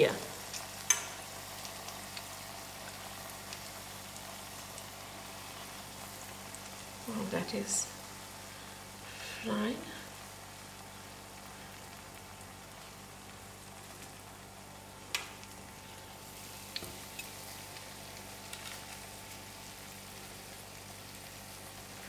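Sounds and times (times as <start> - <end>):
dough sizzling in oil: 0.0 - 22.0.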